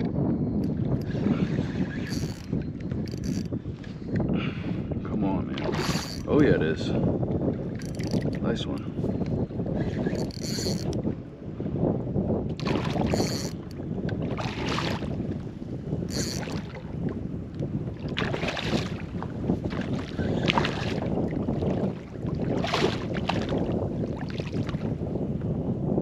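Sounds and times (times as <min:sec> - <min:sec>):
water lapping and splashing: 0:00.0 - 0:11.6, 0:12.4 - 0:25.0
wind rumbling on microphone: 0:00.0 - 0:26.0.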